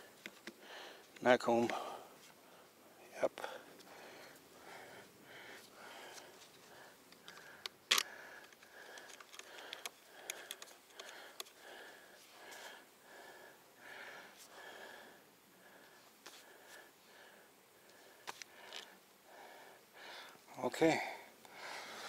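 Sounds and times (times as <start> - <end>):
person breathing heavily: 0.0 - 1.1, 1.7 - 20.4, 21.0 - 22.0.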